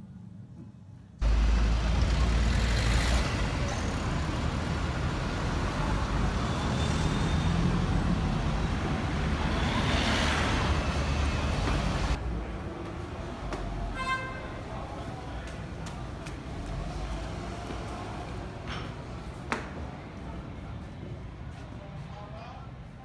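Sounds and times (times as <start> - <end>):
cars passing: 1.2 - 21.1
bus running past: 1.2 - 21.8.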